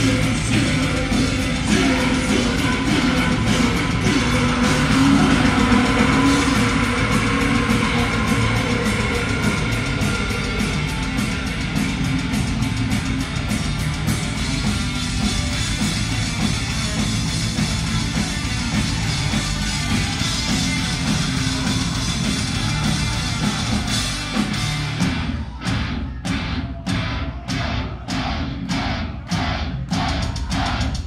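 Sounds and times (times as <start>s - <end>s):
fast drumming: 0.0s - 31.0s
live metal band playing: 0.0s - 31.0s.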